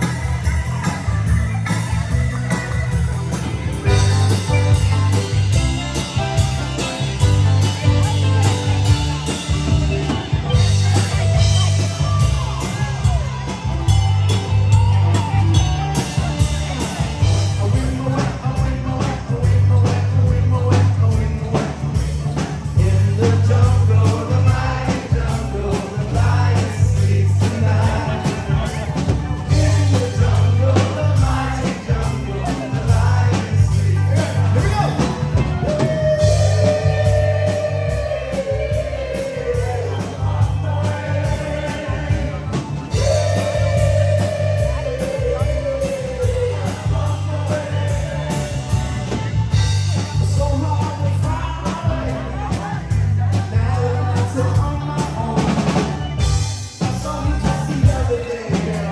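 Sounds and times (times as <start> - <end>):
guitar: 0.0 - 58.9
live rock band playing: 0.0 - 58.9
steady bass line: 0.0 - 58.9
person singing: 3.8 - 49.2, 49.9 - 58.9.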